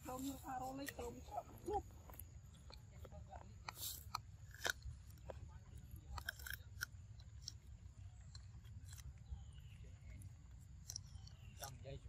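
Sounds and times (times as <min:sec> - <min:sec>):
monkey chewing fruit: 0:00.0 - 0:12.0.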